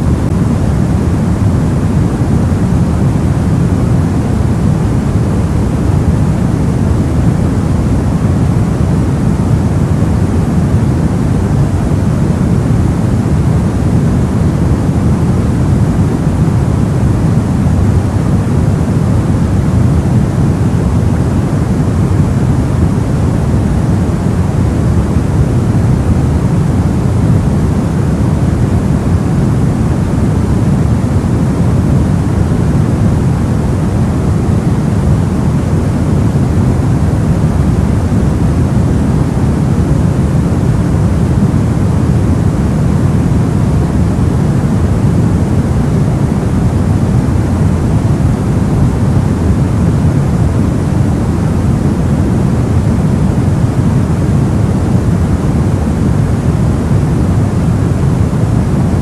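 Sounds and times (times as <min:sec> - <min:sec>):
low white noise: 0:00.0 - 0:59.0.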